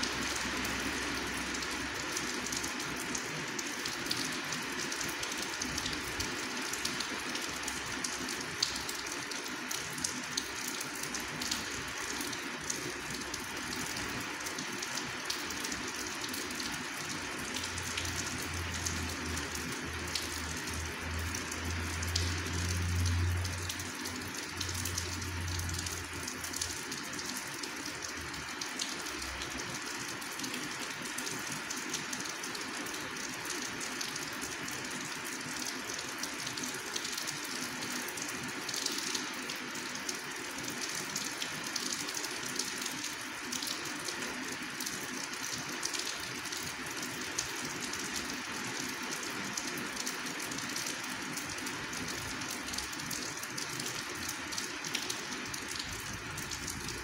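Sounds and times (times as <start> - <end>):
raindrops ticking close by: 0.0 - 57.0
steady rain falling: 0.0 - 57.0.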